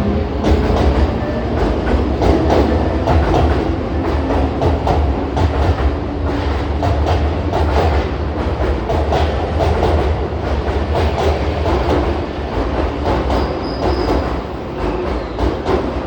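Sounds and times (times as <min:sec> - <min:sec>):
train rumbling: 0:00.0 - 0:16.0
wheels clicking over rail joints: 0:00.4 - 0:16.0.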